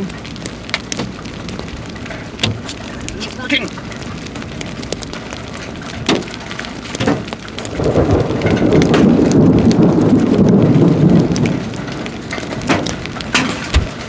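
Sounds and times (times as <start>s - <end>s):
raindrops ticking: 0.0s - 14.0s
thunder rumbling: 0.0s - 14.0s.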